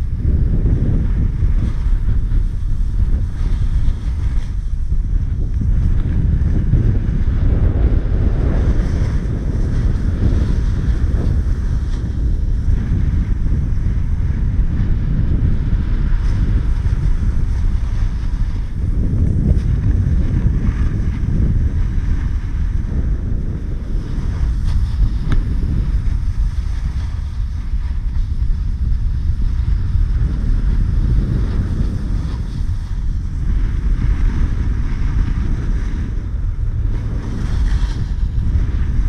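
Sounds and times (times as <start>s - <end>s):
snowboard hissing over snow: 0.0s - 39.0s
wind buffeting microphone: 0.0s - 39.0s.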